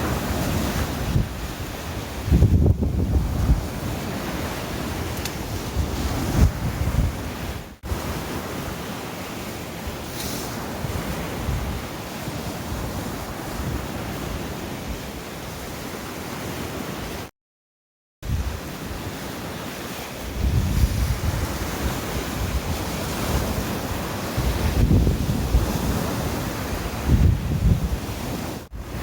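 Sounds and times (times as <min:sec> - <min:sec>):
wind buffeting microphone: 0:00.0 - 0:08.8, 0:10.6 - 0:15.6, 0:18.2 - 0:19.2, 0:20.2 - 0:29.0
sea waves breaking on shore: 0:00.0 - 0:17.3, 0:18.2 - 0:29.0.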